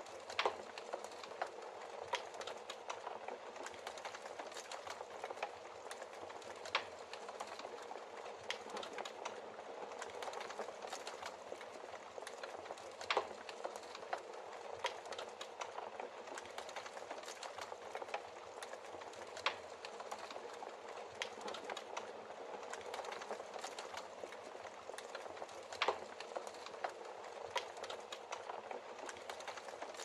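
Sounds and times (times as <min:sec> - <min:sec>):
fire hissing and fluttering: 0:00.0 - 0:30.0
wood crackling: 0:00.0 - 0:30.0.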